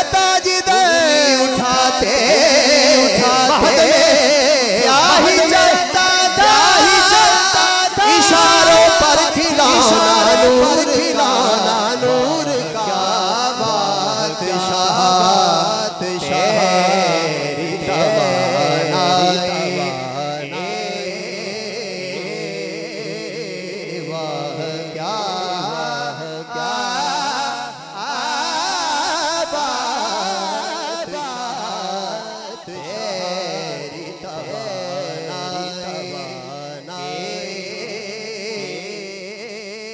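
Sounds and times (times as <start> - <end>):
man singing through microphone: 0.0 - 39.9.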